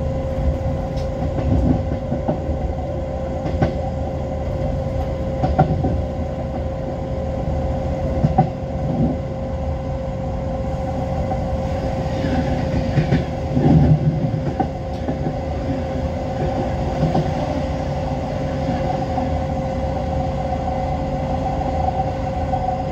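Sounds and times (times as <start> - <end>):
constant whine: 0.0 - 22.9
passing train rush: 0.0 - 22.9
train running rumble: 0.0 - 22.9.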